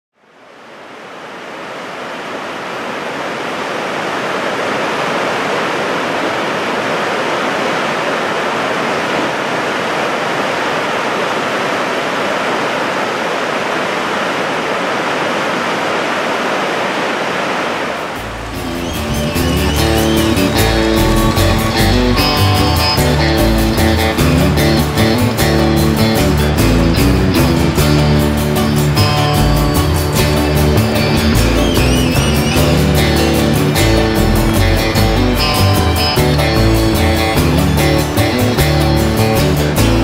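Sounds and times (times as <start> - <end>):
river rapids rushing: 0.3 - 40.0.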